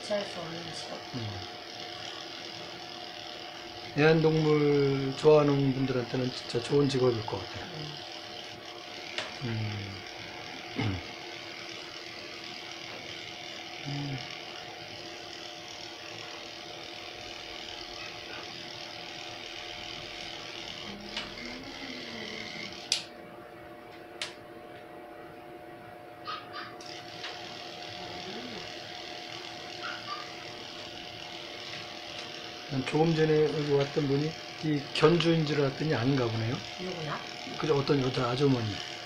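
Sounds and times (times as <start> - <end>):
electric clippers humming: 0.0 - 39.0.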